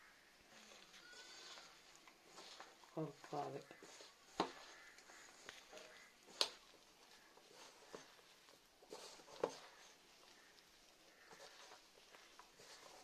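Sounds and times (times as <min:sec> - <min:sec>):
vegetables rustling and crunching: 0:00.0 - 0:13.0.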